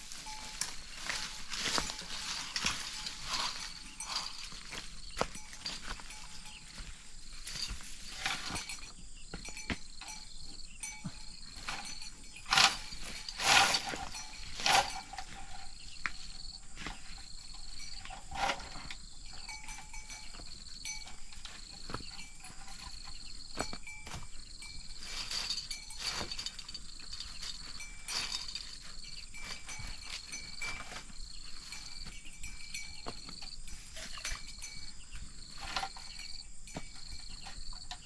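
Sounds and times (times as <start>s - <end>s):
insects droning: 0.0s - 38.0s.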